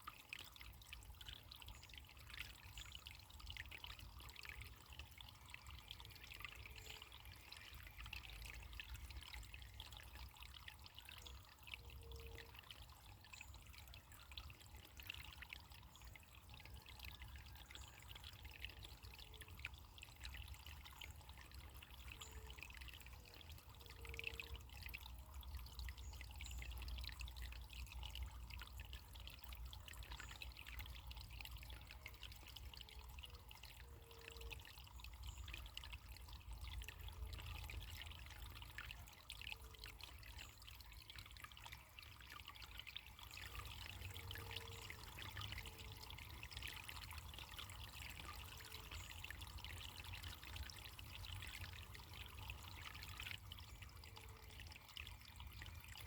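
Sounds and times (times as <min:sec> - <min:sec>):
faint water trickling: 0:00.0 - 0:56.0.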